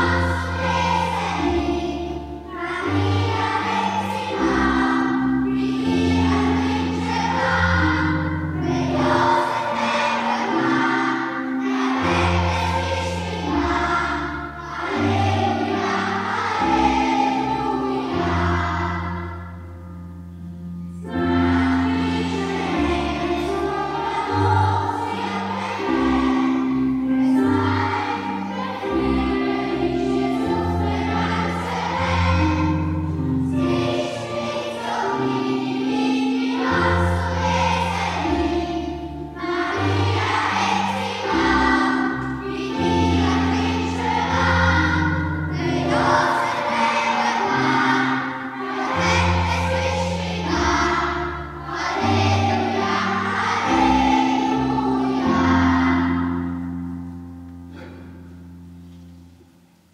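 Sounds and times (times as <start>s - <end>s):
children's choir singing: 0.0s - 58.8s
keyboard accompaniment: 0.0s - 59.9s.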